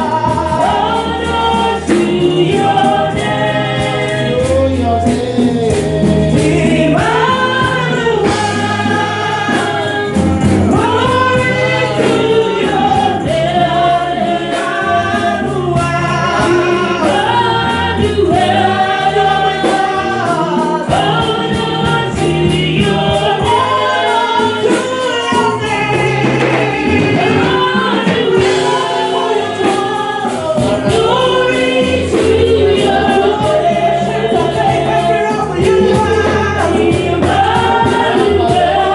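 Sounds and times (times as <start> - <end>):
bass and keyboard accompaniment: 0.0 - 38.9
choir singing gospel song: 0.0 - 38.9.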